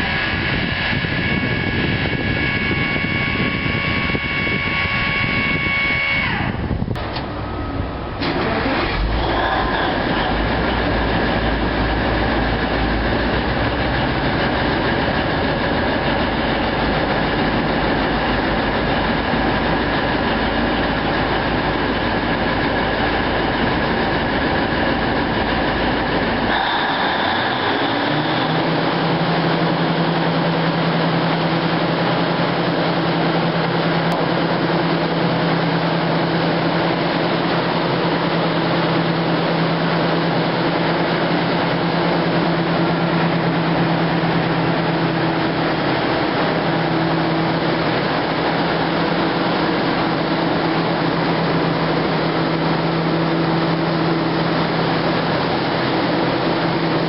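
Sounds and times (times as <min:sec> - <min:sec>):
machine whine: 0:00.0 - 0:57.0
mechanical drone: 0:00.0 - 0:57.0.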